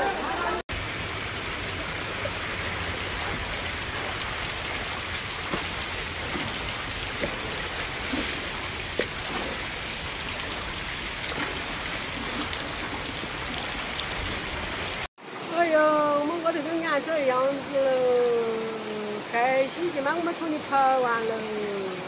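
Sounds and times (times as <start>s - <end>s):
floodwater running: 0.0s - 22.0s
rain falling: 0.0s - 22.0s.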